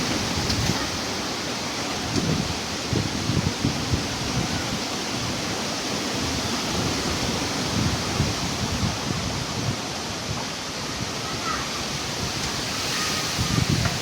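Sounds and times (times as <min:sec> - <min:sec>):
rain hissing: 0:00.0 - 0:14.0
storm wind: 0:00.0 - 0:14.0
wind gusts buffeting microphone: 0:00.0 - 0:14.0.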